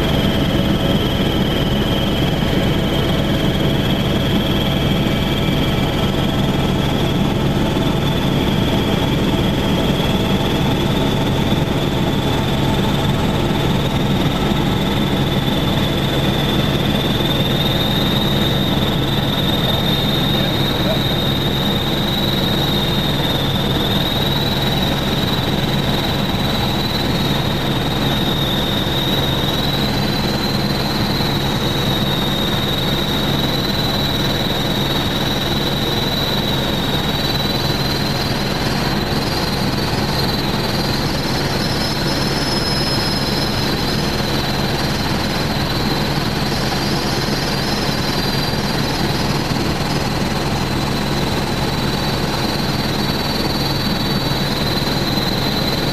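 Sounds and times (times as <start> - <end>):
helicopter engine and rotor: 0.0 - 55.9
high whine: 0.0 - 55.9.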